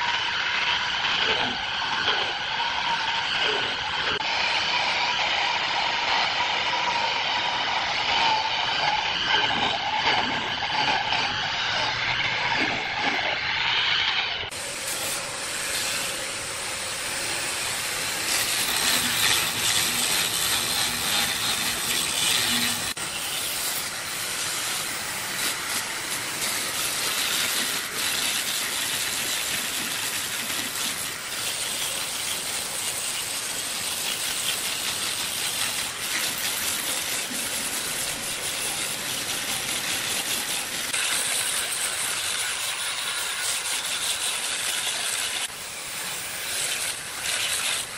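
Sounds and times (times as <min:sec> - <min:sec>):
woodworking machinery hissing: 0:00.0 - 0:47.9.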